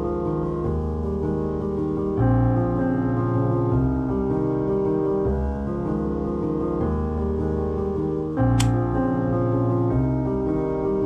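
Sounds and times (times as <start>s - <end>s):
piano chords: 0.0s - 11.0s.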